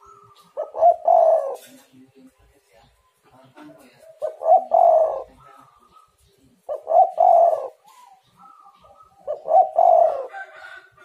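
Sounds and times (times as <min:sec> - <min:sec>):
dove cooing: 0:00.0 - 0:02.0, 0:03.6 - 0:11.0.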